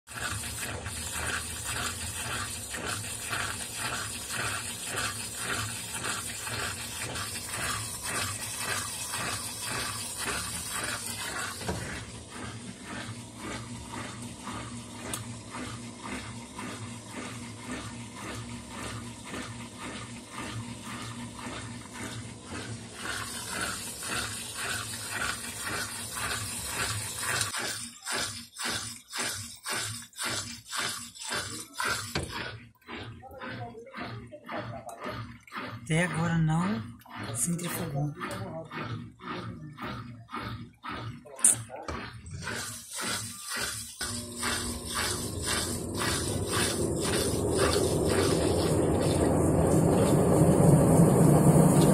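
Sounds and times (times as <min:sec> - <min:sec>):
washing machine water sloshing: 0:00.0 - 0:51.9.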